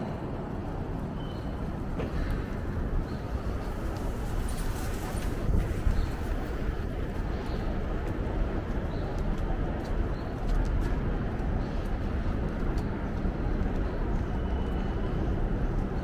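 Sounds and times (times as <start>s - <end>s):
street noise: 0.0s - 16.0s
traffic rumble: 0.0s - 16.0s.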